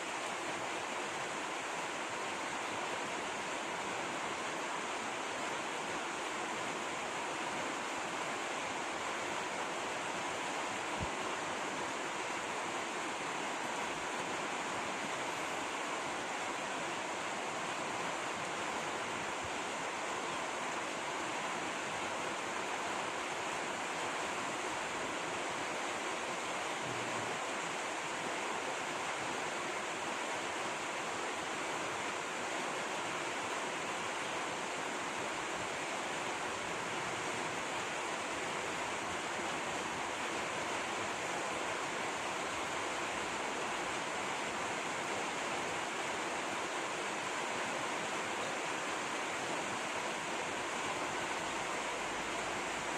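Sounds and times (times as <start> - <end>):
flowing water rushing: 0.0 - 52.9.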